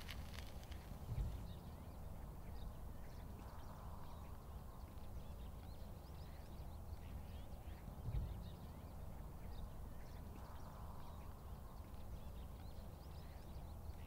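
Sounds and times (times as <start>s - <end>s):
faint bird chirps: 0.0s - 14.0s
steady low rumble: 0.0s - 14.0s.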